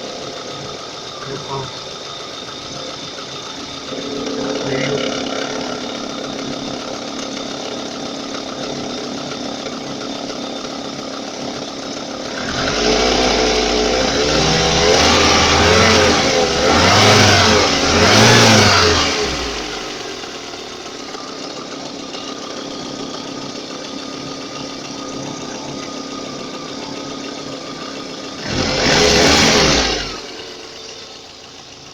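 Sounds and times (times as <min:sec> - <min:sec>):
car engine idling and revving: 0:00.0 - 0:31.9
engine knocking: 0:00.0 - 0:31.9.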